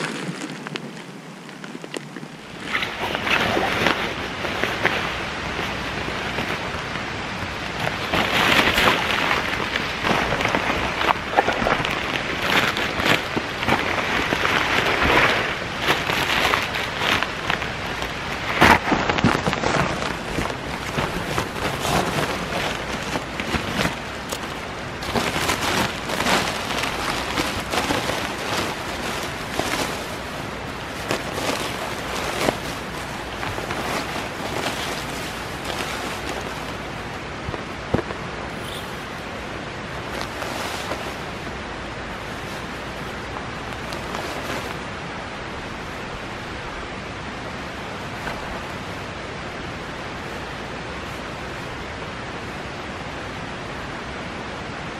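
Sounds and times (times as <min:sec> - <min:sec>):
nylon fabric crinkling and rustling: 0:00.0 - 0:51.8.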